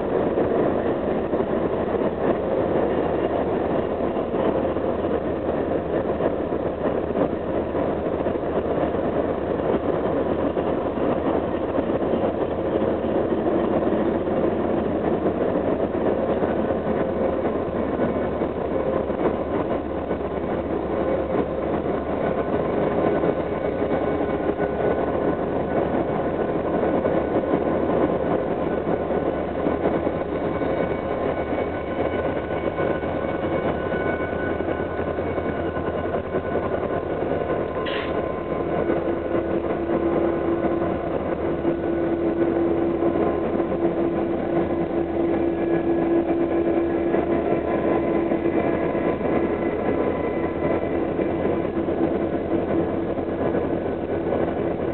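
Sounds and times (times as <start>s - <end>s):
locomotive engine drone: 0.0s - 54.9s
steady whining tones: 0.0s - 54.9s.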